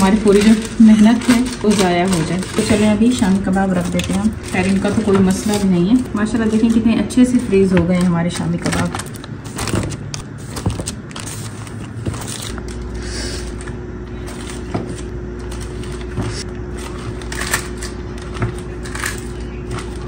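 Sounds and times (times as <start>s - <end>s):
low appliance hum: 0.0s - 20.0s.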